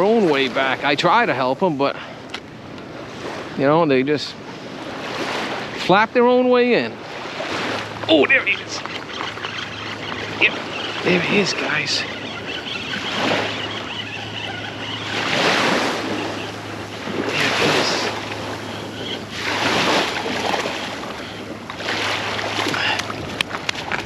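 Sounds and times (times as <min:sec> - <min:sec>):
small waves breaking on a beach: 0:00.0 - 0:24.0.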